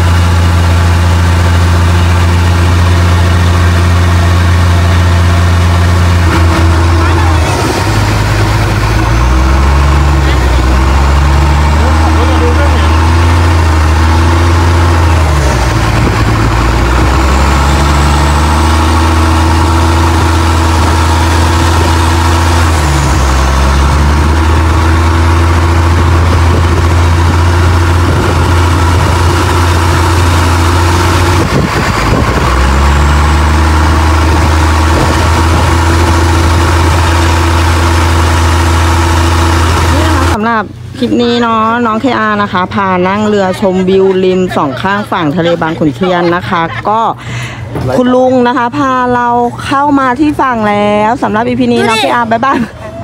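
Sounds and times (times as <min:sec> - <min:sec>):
motorboat engine running: 0:00.0 - 0:53.0.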